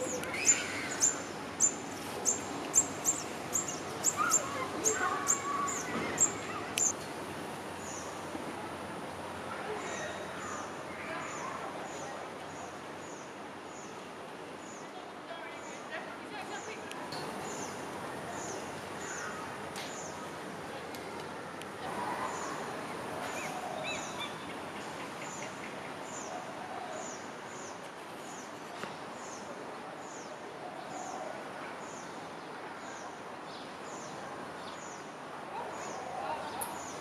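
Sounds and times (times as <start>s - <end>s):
outdoor background hiss: 0.0s - 37.0s.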